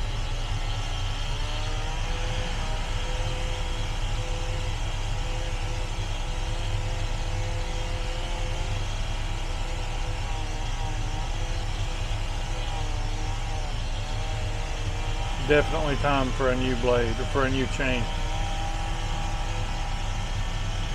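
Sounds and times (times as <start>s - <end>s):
engine running with low rumble: 0.0s - 20.9s.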